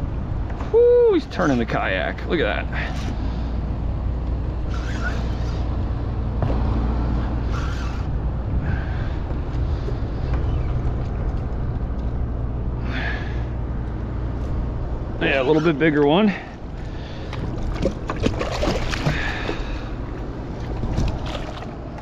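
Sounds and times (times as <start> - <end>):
low wind rumble: 0.0 - 22.0.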